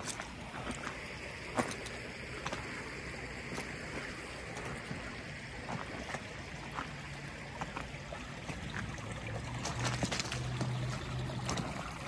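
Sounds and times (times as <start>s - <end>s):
small splashes: 0.0s - 12.0s
steady rushing water: 0.0s - 12.0s
water trickling from pipes: 0.0s - 12.0s.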